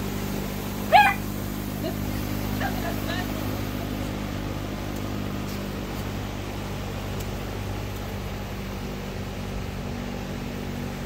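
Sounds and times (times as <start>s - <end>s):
drone propellers humming: 0.0s - 11.0s.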